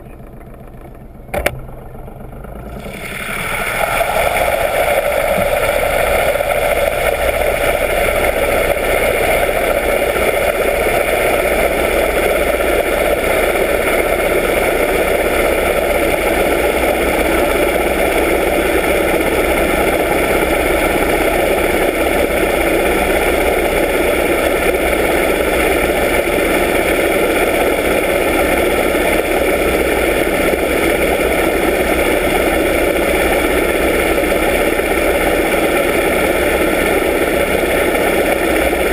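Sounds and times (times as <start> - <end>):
boat engine droning underwater: 0.0 - 38.9.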